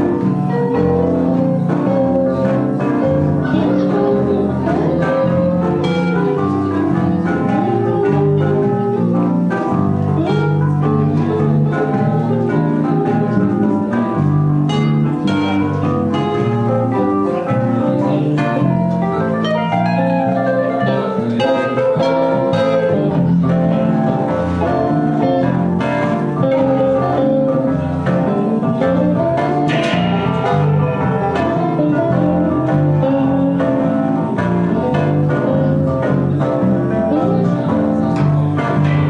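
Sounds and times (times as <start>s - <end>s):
electric guitars: 0.0s - 39.0s
electronic keyboard: 0.0s - 39.0s.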